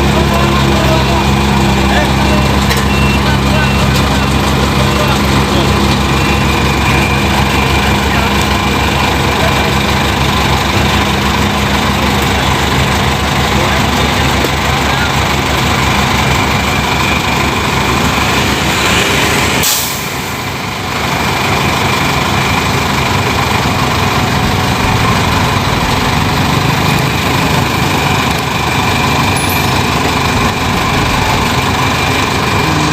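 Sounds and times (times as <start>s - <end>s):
heavy diesel engines running: 0.0s - 32.9s.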